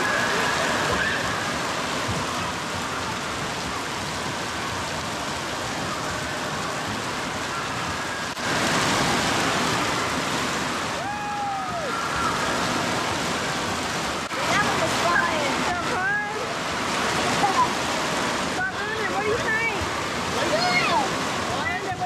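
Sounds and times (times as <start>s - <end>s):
water rushing and splashing: 0.0s - 22.0s.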